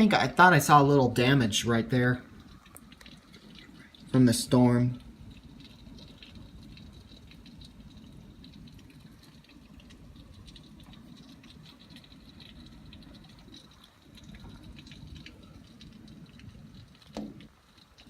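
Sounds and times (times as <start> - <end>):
hail pattering: 0.0 - 18.0.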